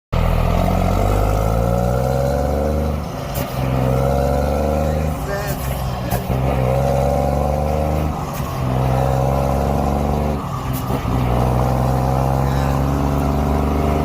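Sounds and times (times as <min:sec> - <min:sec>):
truck diesel engine running: 0:00.1 - 0:14.0.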